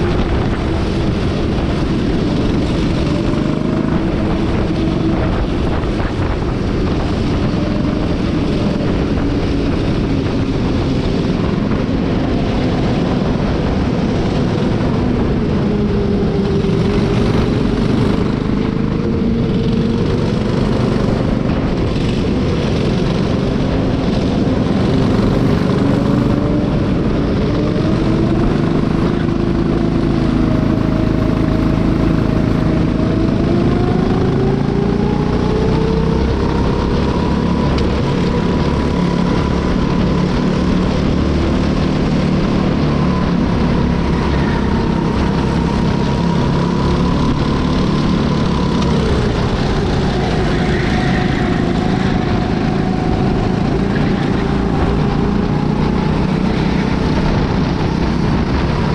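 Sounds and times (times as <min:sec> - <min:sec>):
kart engine running hard: 0:00.0 - 0:58.9.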